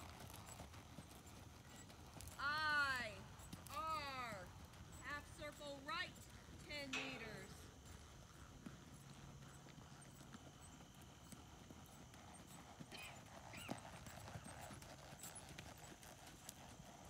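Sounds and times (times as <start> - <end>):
muffled hoofbeats on sand: 0.0 - 17.0.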